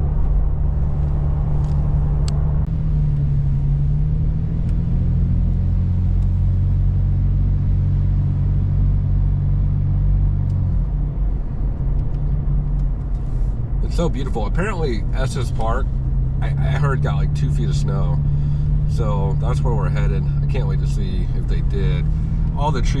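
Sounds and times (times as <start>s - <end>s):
car engine droning: 0.0s - 23.0s
road noise: 0.0s - 23.0s.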